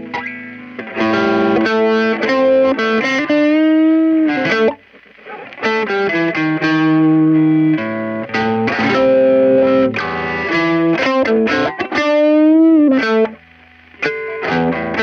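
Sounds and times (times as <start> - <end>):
overdriven electric guitar lead: 0.0 - 15.0.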